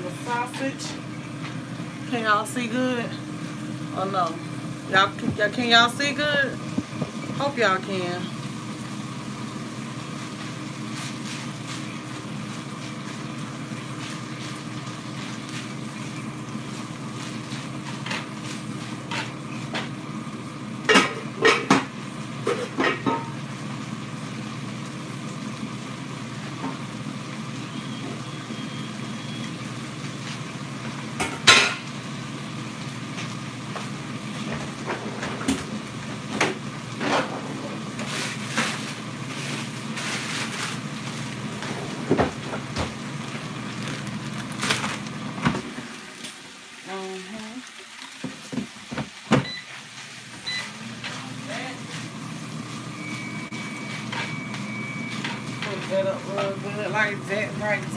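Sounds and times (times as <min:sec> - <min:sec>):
sausage and onions sizzling: 0:00.0 - 0:57.9.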